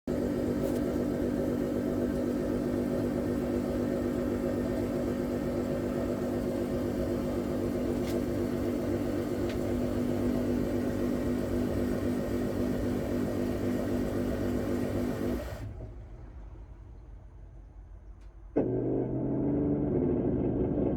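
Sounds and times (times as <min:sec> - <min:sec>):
washing machine humming: 0:00.1 - 0:16.8, 0:18.6 - 0:20.9.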